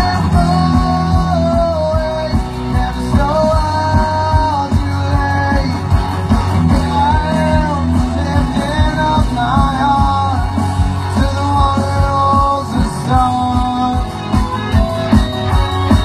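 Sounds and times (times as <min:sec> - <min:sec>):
rock music with singer: 0:00.0 - 0:16.0.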